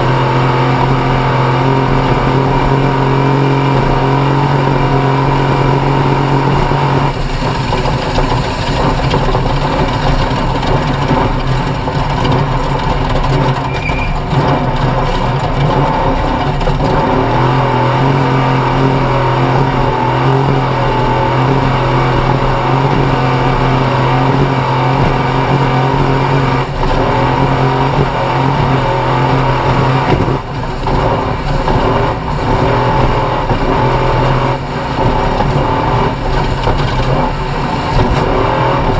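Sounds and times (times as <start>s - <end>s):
engine running at high revs: 0.0s - 38.9s
rough noise with knocks: 5.8s - 38.9s.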